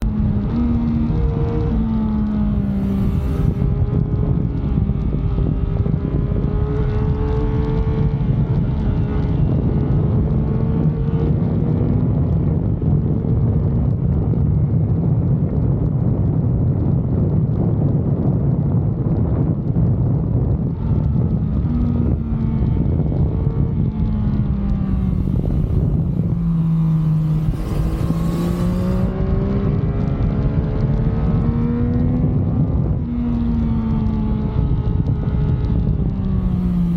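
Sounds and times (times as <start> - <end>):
motorcycle engine and exhaust: 0.0 - 36.9.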